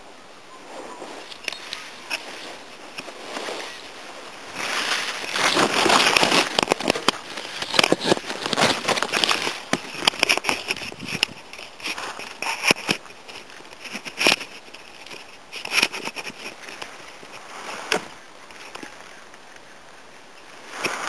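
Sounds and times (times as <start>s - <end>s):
dry crackling and rustling: 0.6s - 21.0s.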